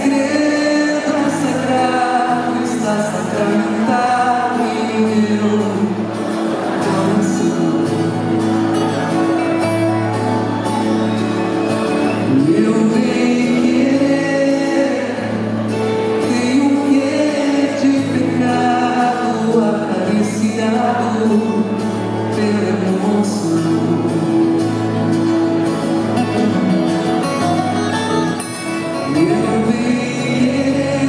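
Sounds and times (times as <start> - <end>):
band playing pop song: 0.0 - 31.0.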